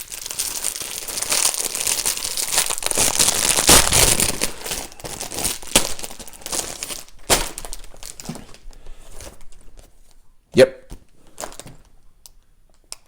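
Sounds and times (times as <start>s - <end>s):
plastic packaging crinkling: 0.0s - 10.3s, 10.9s - 13.0s.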